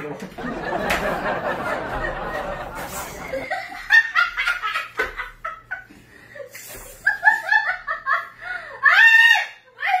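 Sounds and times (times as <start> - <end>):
woman laughing hard: 0.4 - 10.0.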